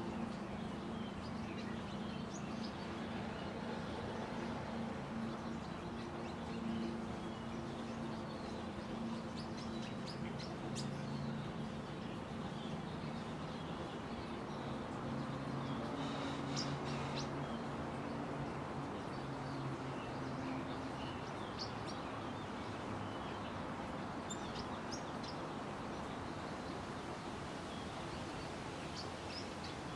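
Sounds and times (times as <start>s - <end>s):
songbird chirps: 0.0s - 29.9s.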